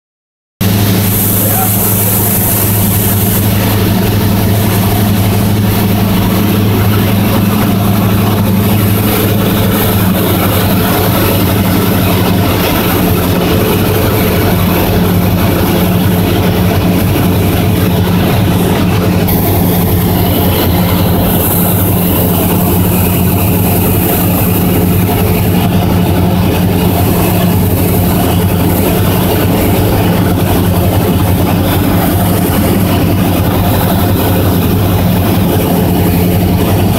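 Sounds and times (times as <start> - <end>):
propeller plane engine droning: 0.6 - 36.9.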